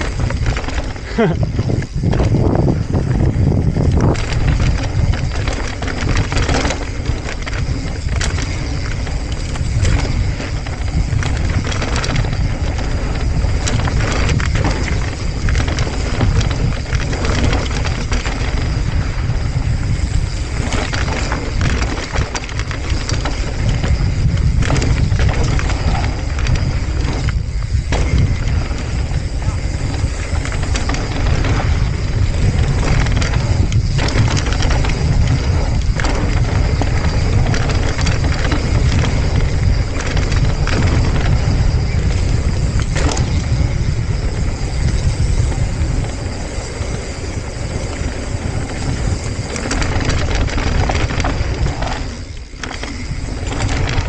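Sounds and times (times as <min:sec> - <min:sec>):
bike rattling and knocking: 0:00.0 - 0:54.0
tyres rumbling over dirt: 0:00.0 - 0:54.0
wind buffeting microphone: 0:00.0 - 0:54.0.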